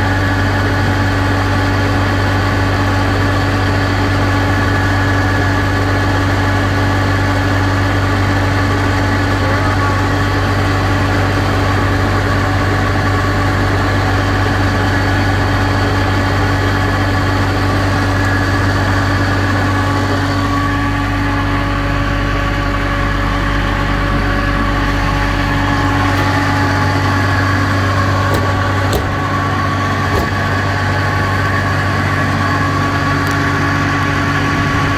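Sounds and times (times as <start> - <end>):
fans humming: 0.0 - 34.9
refrigeration unit diesel engine: 0.0 - 34.9.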